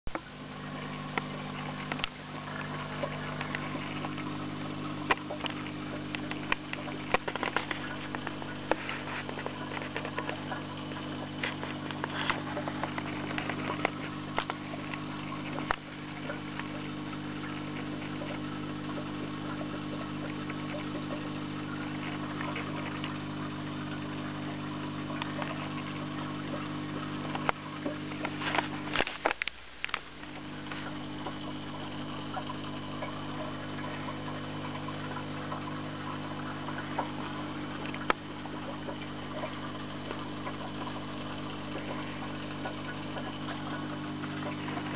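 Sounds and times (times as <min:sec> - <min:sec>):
aquarium equipment humming: 0:00.1 - 0:44.9.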